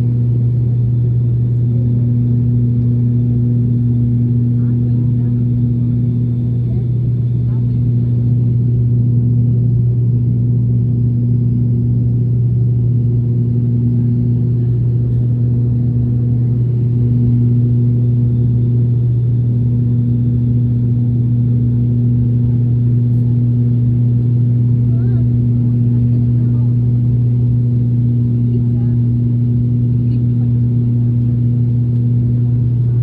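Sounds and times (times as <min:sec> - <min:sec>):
higher engine hum: 0:00.0 - 0:33.0
turboprop cabin drone: 0:00.0 - 0:33.0.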